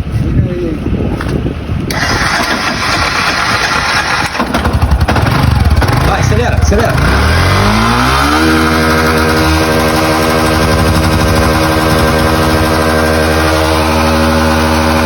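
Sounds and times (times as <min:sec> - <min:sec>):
motorcycle engine revving: 0:01.9 - 0:15.0.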